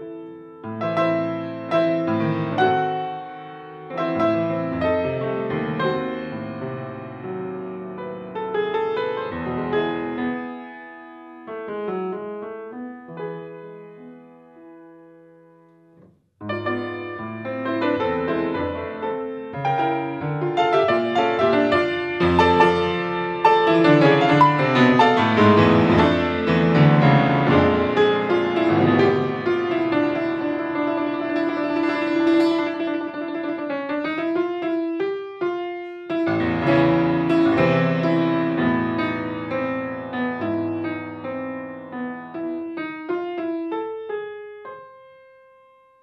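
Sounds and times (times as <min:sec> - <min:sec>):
solo grand piano: 0:00.0 - 0:46.0.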